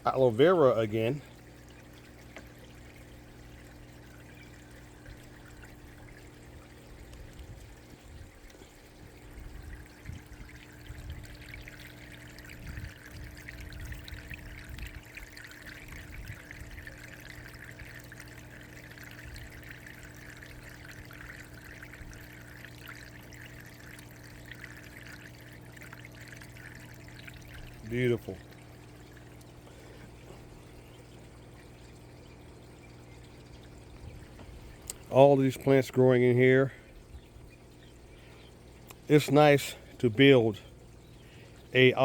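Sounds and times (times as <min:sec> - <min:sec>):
low hum: 0:00.0 - 0:42.0
water pouring and trickling: 0:00.0 - 0:42.0.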